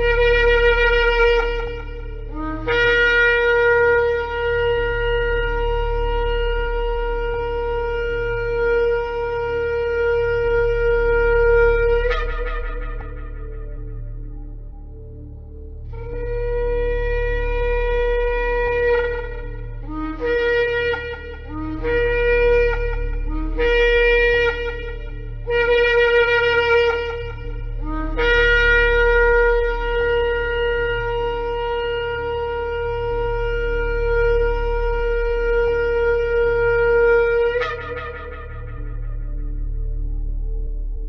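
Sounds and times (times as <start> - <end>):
shofar blasts: 0.0 - 40.7
steady low hum: 0.0 - 41.0.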